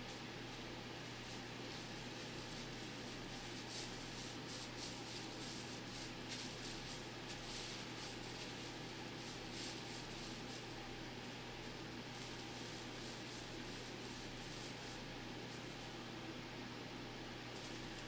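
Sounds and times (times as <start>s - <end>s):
low electrical hum: 0.0s - 18.0s
hands rustling and scratching: 1.0s - 15.8s.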